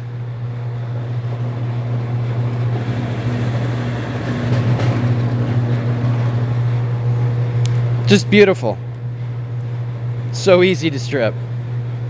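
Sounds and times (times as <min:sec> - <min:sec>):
wire stripping machine humming: 0:00.0 - 0:12.0.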